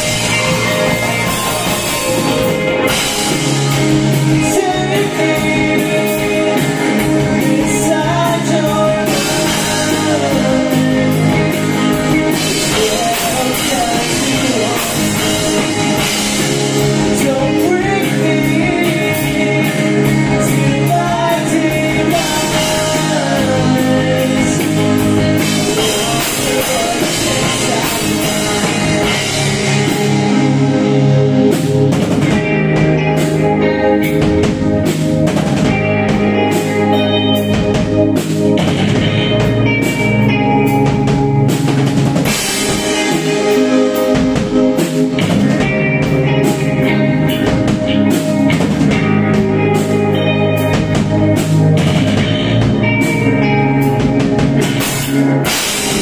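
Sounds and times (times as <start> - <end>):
drum kit steady beat: 0.0 - 56.0
electric guitars: 0.0 - 56.0
live rock band playing: 0.0 - 56.0.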